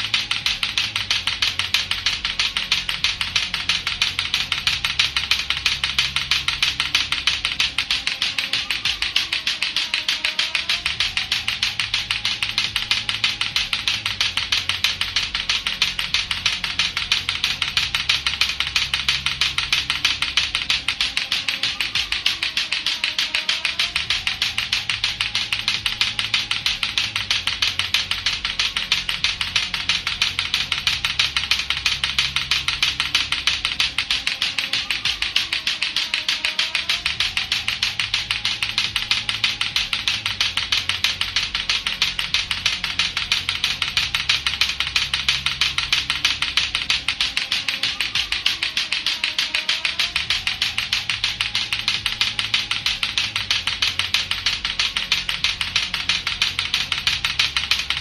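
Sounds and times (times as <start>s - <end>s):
background music with bass line: 0.0s - 58.0s
clacker balls clacking: 0.0s - 58.0s.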